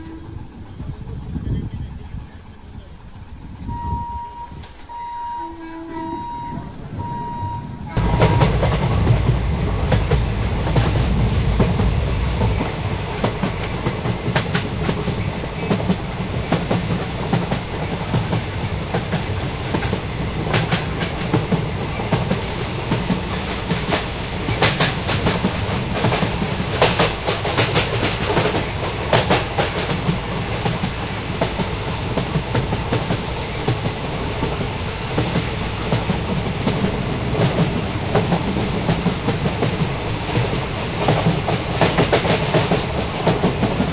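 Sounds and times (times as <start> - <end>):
train wheels rumbling on rail: 0.0 - 43.9
clickety-clack over rail joints: 4.5 - 5.0, 7.9 - 43.9.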